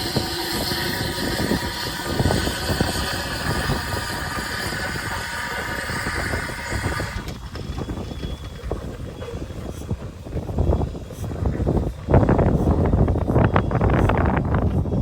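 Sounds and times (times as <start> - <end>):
train running rumble: 0.0 - 15.0
wheels knocking and clattering: 0.0 - 15.0.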